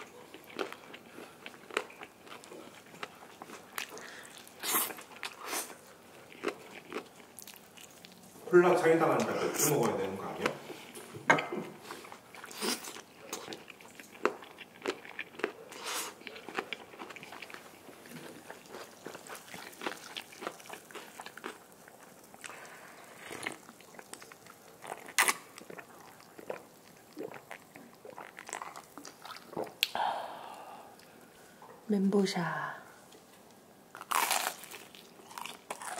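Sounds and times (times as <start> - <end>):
crunching and chewing fried chicken: 0.0 - 11.1, 11.8 - 29.9, 33.9 - 35.9.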